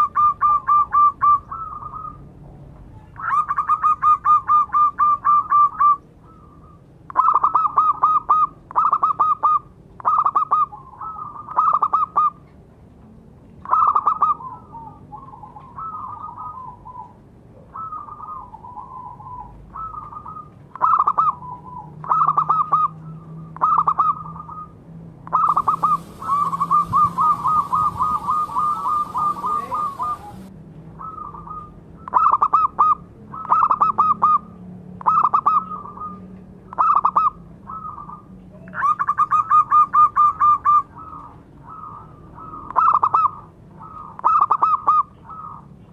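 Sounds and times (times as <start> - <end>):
dove cooing: 0.0 - 2.2, 2.9 - 12.5, 13.6 - 45.7.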